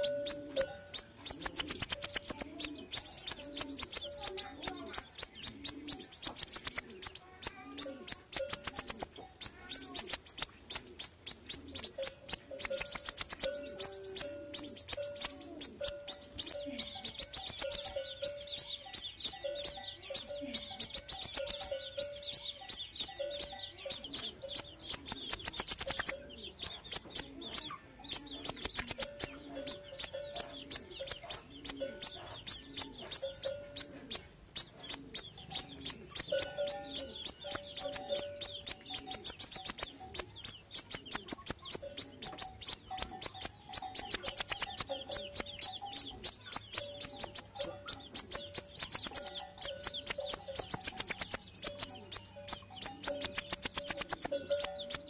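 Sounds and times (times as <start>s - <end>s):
bird high chirps and trills: 0.0s - 55.0s
lower whistled bird notes: 0.0s - 55.0s.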